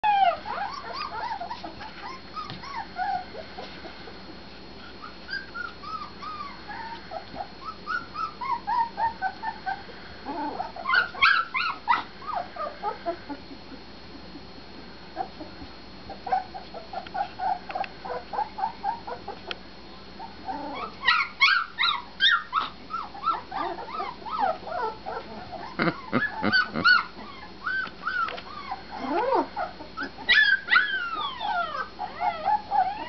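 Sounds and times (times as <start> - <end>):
puppies squealing: 0.0 - 3.4, 5.0 - 13.4, 16.2 - 19.4, 20.2 - 33.0
puppies yipping: 0.0 - 4.0, 5.0 - 13.4, 16.1 - 19.5, 20.2 - 33.0.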